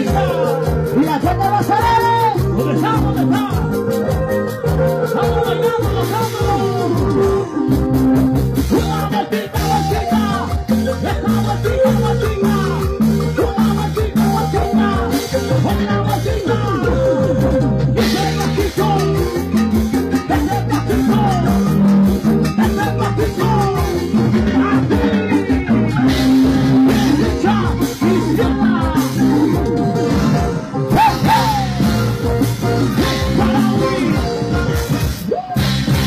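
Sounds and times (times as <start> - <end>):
festive dance music: 0.0 - 36.0.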